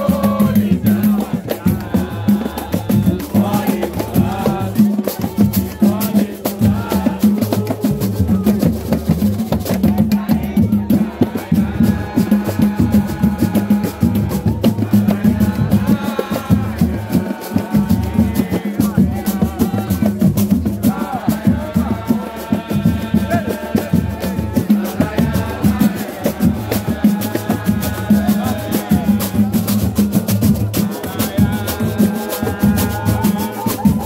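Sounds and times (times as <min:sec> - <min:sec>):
cavaquinho: 0:00.0 - 0:34.0
hand drums: 0:00.0 - 0:34.0
pandeiro: 0:00.0 - 0:34.0
voices singing: 0:00.0 - 0:34.0.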